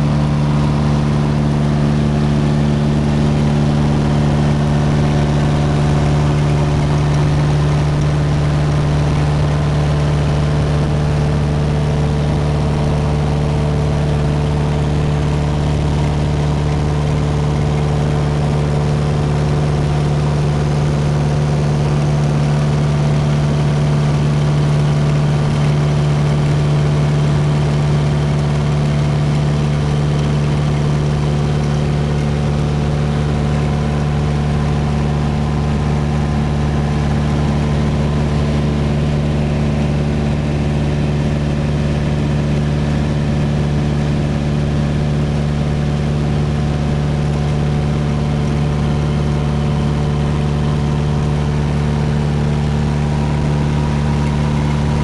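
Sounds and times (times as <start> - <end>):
light aircraft engine droning in cabin: 0.0 - 55.0.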